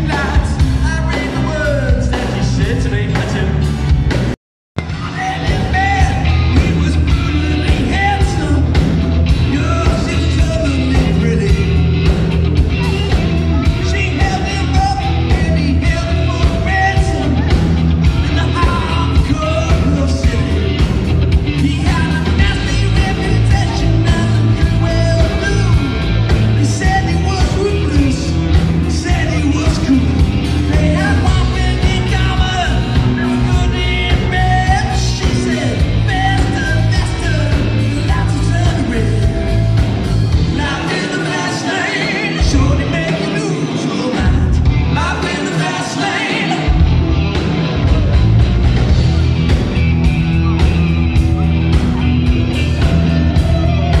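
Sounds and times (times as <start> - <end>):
person singing lead vocal: 0.0 - 3.8, 4.8 - 47.2
bass guitar: 0.0 - 54.0
drum kit: 0.0 - 54.0
electric guitars: 0.0 - 54.0.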